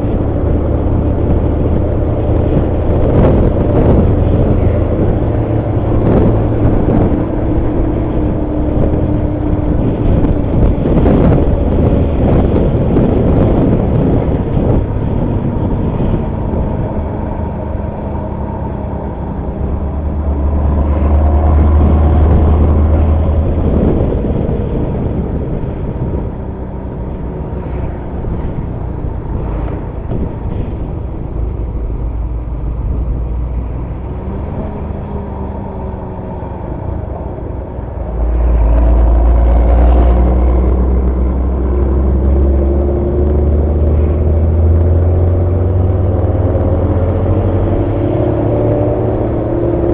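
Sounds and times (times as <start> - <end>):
bus diesel engine rumble: 0.0 - 49.9.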